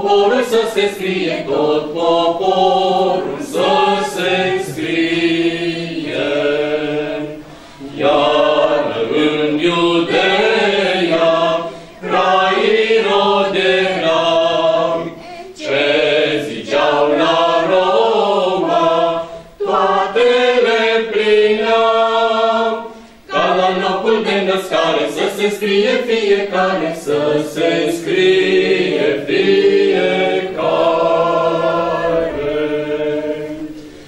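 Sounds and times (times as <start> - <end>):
children and adults singing: 0.0 - 34.0.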